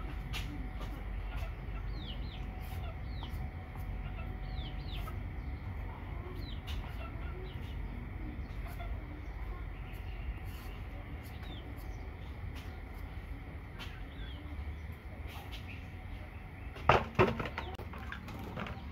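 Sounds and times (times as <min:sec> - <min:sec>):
chickens clucking: 0:00.0 - 0:18.9.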